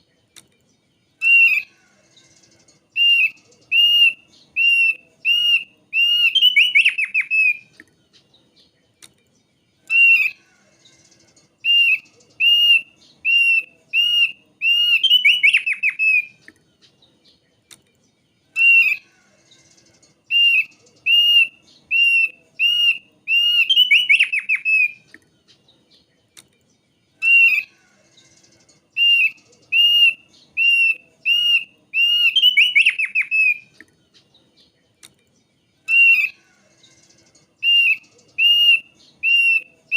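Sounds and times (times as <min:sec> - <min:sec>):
bird whistled song with trill: 0:00.7 - 0:08.7, 0:09.7 - 0:17.4, 0:18.5 - 0:26.1, 0:27.2 - 0:34.7, 0:35.8 - 0:39.9.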